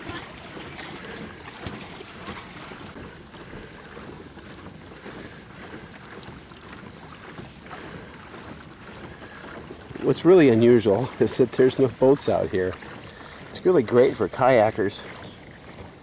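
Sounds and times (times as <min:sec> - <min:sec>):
water noise from moving boat: 0:00.0 - 0:16.0.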